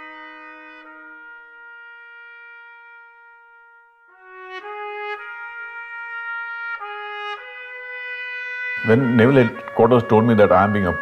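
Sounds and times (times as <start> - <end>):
solo trumpet: 0.0 - 11.0.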